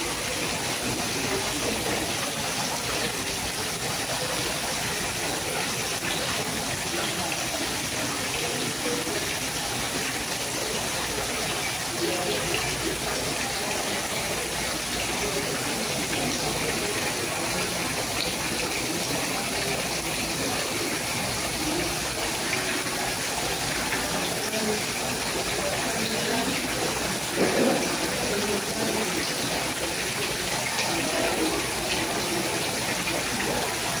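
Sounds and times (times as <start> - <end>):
faint voices murmuring: 0.0 - 34.0
fountain splashing into pond: 0.0 - 34.0.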